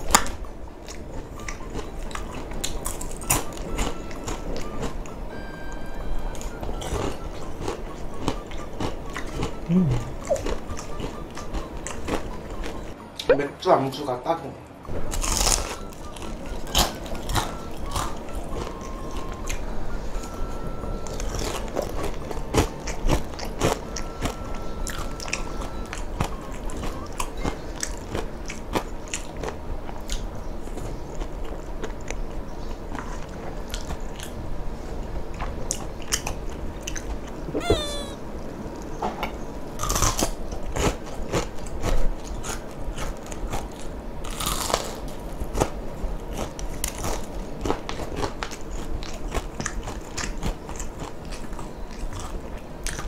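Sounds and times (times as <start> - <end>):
crunching and chewing fried chicken: 0.0 - 13.0, 14.9 - 39.0, 39.7 - 53.0.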